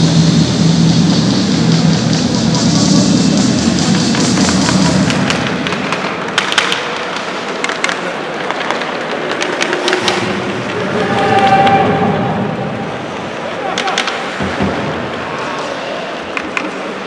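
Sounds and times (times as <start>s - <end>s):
ice rink noise: 0.0s - 17.0s
hockey sticks and puck clacking: 2.2s - 12.1s, 13.0s - 17.0s.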